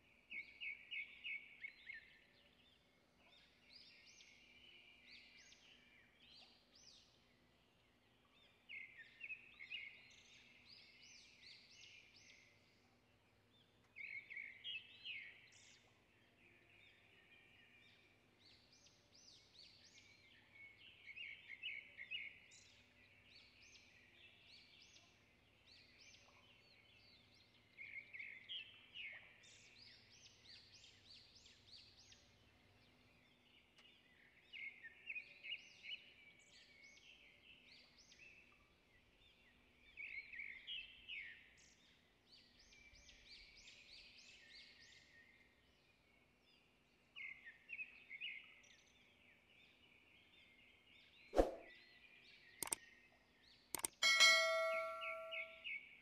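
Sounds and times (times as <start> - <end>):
faint bird song: 0.0 - 56.0.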